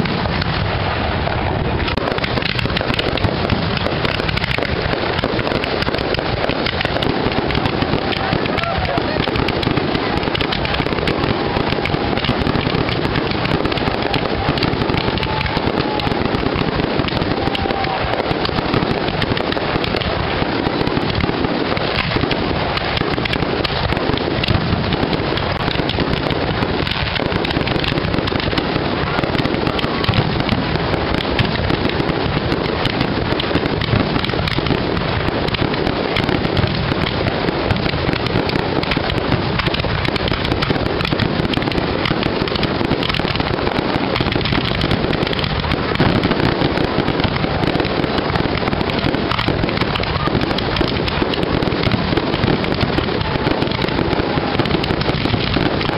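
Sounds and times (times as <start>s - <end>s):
fireworks bursting: 0.0s - 55.9s.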